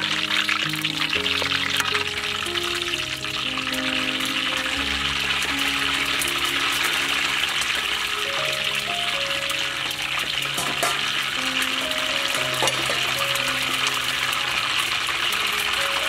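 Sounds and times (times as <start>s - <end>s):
food deep-frying in oil: 0.0s - 16.0s
soft background music: 0.0s - 16.0s.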